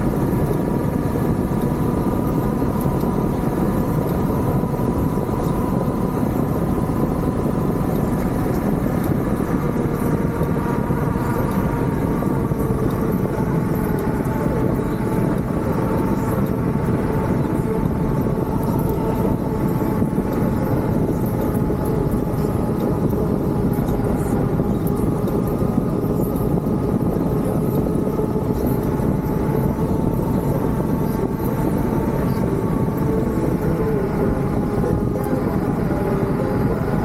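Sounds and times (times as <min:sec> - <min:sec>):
hurricane wind roaring: 0:00.0 - 0:37.0.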